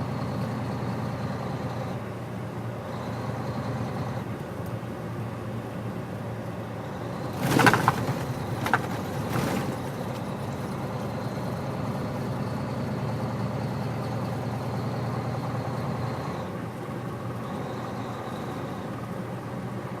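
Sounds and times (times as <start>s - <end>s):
road noise: 0.0s - 20.0s
truck engine drone: 0.0s - 20.0s.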